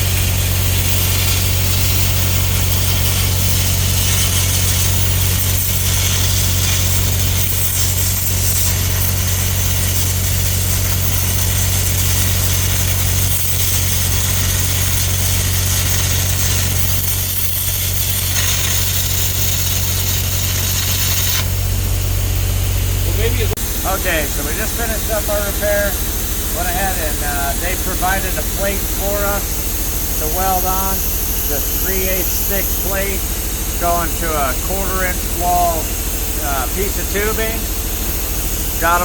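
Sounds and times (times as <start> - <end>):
welding arc crackling and hissing: 0.0 - 39.0.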